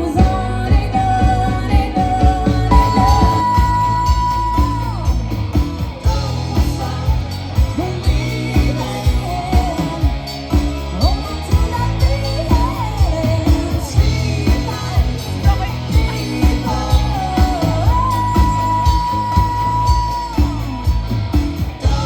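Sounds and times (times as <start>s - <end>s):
person singing: 0.0s - 21.1s, 21.8s - 22.0s
bass guitar: 0.0s - 22.0s
electric guitars: 0.0s - 22.0s
steady drum beat: 0.0s - 22.0s.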